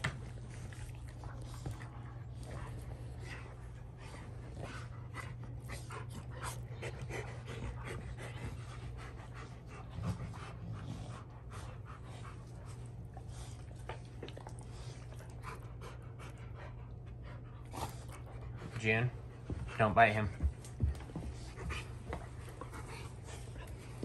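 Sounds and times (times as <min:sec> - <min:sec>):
dogs panting hard: 0:00.0 - 0:24.0
steady low hum: 0:00.0 - 0:24.0.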